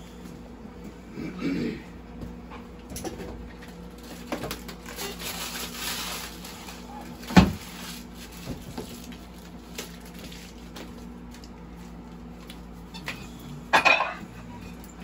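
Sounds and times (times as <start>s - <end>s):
equipment humming: 0.0s - 15.0s.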